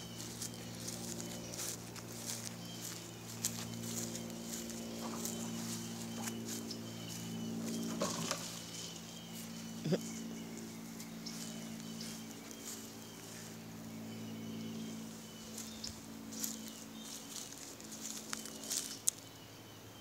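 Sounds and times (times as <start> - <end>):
footsteps on mulch and dry leaves: 0.0 - 19.5
steady low hum: 0.0 - 20.0.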